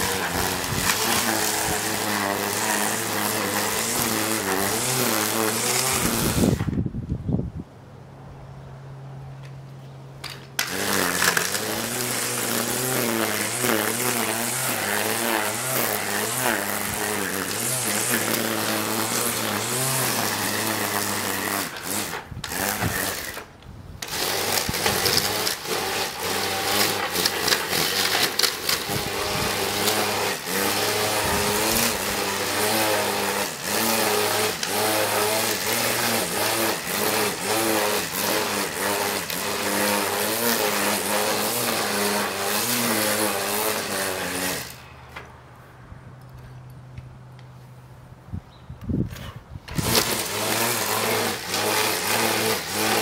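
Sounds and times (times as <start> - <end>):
string trimmer cutting grass: 0.0 - 6.9, 10.2 - 45.3, 48.8 - 53.0.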